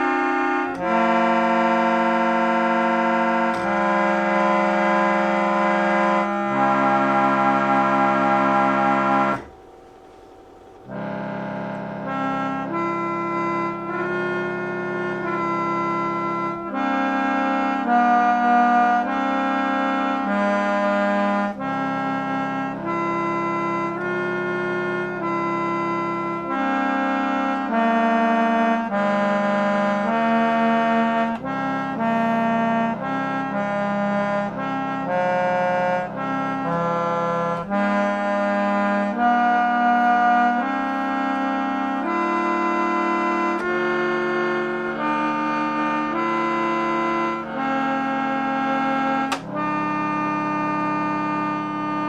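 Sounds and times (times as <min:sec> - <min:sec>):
reed organ playing melody and chords: 0:00.0 - 0:52.0.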